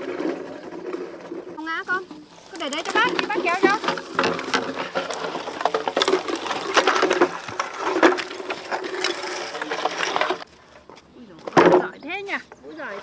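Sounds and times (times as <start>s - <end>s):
bamboo pole scraping through leaves: 0.0s - 10.5s.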